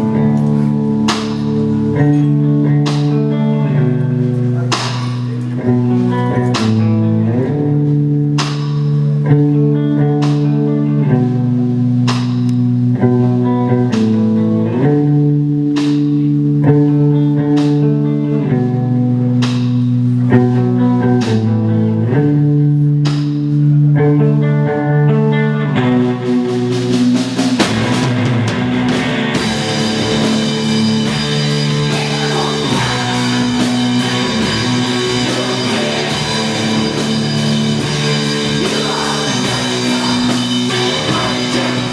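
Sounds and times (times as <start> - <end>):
held guitar chords: 0.0 - 41.9
live rock band playing: 0.0 - 41.9.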